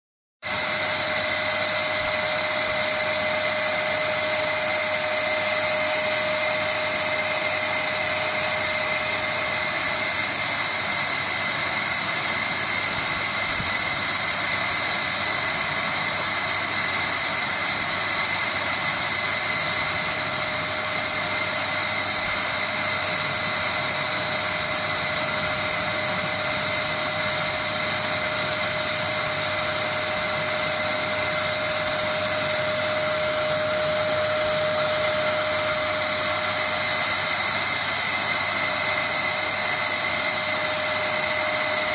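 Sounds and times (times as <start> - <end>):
vacuum cleaner motor running: 0.4 - 41.9.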